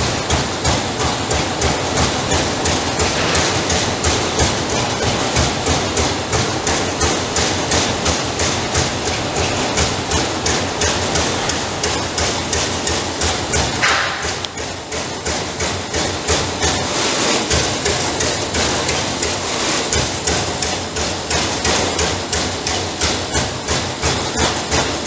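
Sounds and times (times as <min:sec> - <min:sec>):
punch press punching sheet metal: 0:00.0 - 0:25.0.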